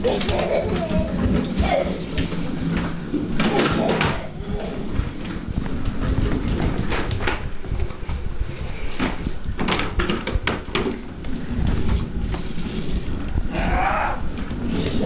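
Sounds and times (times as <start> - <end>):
plastic toy wheels rumbling: 0.0 - 15.0.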